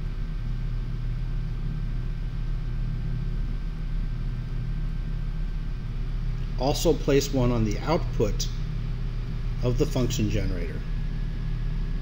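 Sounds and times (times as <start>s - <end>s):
faint steady whine: 0.0s - 12.0s
low room hum: 0.0s - 12.0s.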